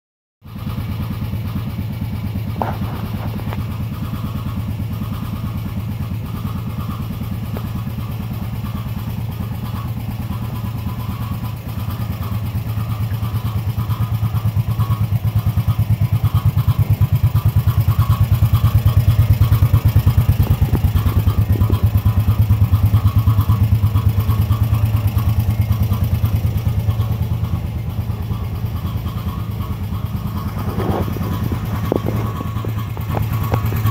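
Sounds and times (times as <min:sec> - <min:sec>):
atv engine idling: 0:00.4 - 0:33.9.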